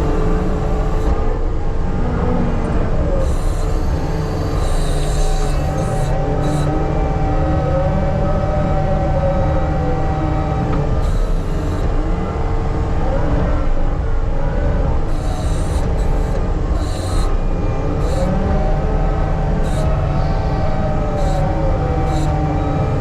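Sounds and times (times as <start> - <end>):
high metallic squeals: 0.0 - 12.4, 15.0 - 23.0.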